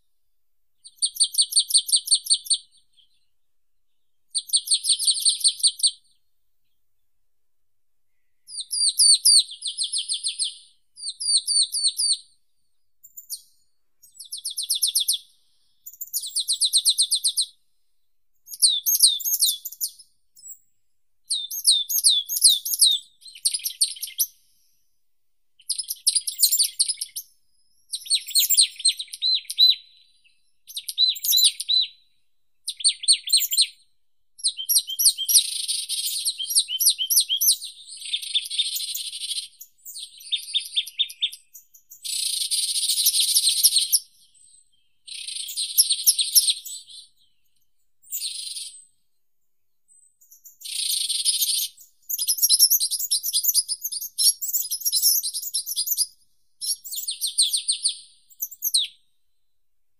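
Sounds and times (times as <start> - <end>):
songbirds singing: 0.8 - 7.2, 8.0 - 25.0, 25.6 - 49.2, 49.9 - 59.5.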